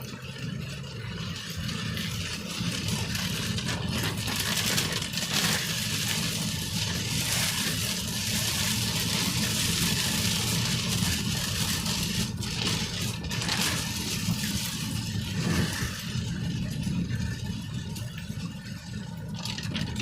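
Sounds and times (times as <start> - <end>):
engine and road rumble: 0.0 - 20.0
heavy rain drumming on car roof: 0.0 - 20.0.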